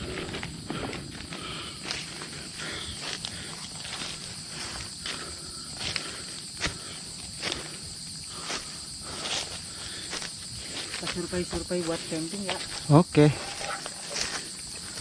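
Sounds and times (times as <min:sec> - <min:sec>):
footsteps on forest trail: 0:00.0 - 0:15.0
high insect drone: 0:00.0 - 0:15.0.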